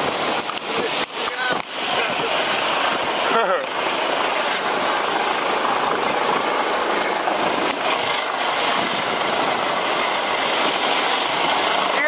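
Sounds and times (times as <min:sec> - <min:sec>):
rush of wind and water: 0:00.0 - 0:12.0
wind buffeting microphone: 0:00.0 - 0:12.0.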